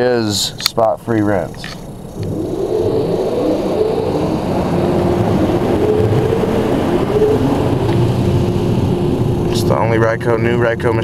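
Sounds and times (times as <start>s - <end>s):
wavering low hum: 1.1s - 11.0s.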